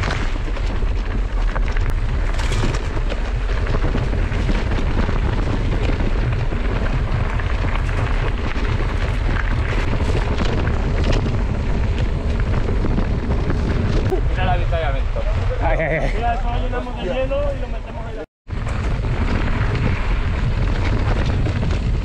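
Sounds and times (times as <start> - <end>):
bike knocks and rattles: 0.0 - 14.4, 18.5 - 22.0
low rumble: 0.0 - 22.0
wind buffeting microphone: 0.0 - 22.0.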